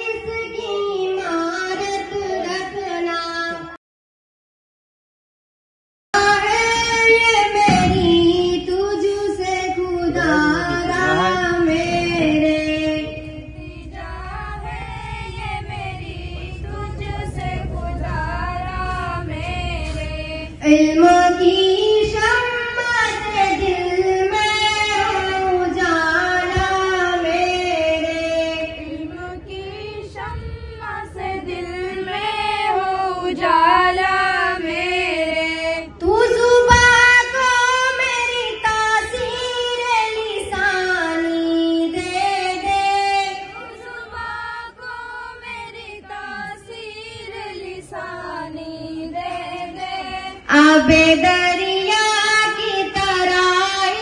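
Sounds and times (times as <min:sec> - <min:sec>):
girls singing unaccompanied: 0:00.0 - 0:03.7, 0:06.2 - 0:54.0.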